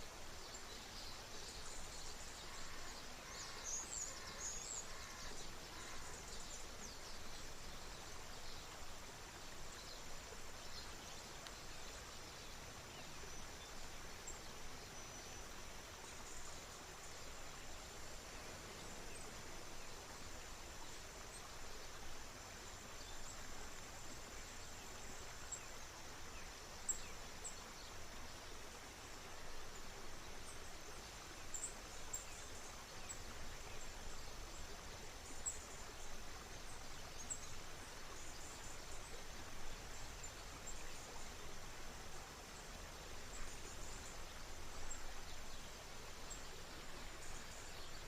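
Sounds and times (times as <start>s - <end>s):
river water: 0.0s - 48.0s.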